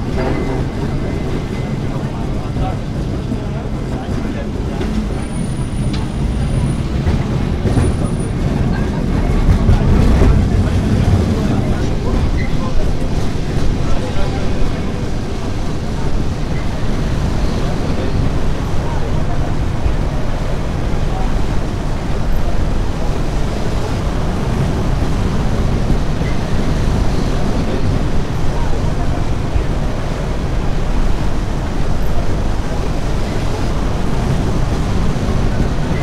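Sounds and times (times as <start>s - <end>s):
electric tram running: 0.0s - 36.0s.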